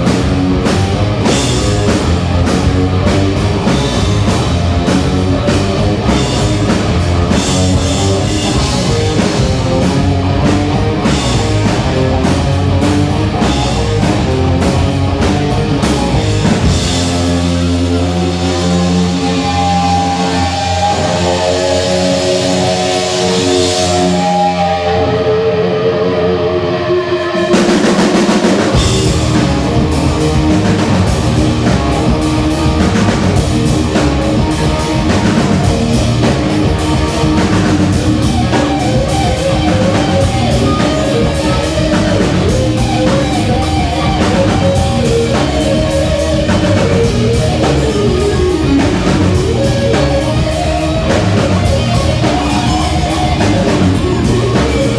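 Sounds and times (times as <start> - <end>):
drum kit beat: 0.0 - 24.9, 27.3 - 54.9
rock guitar chords: 0.0 - 54.9.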